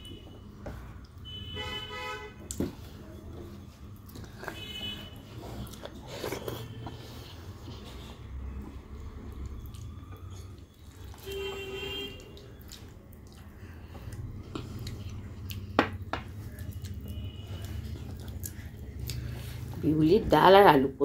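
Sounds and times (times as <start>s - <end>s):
wet food squishing: 2.3s - 19.8s.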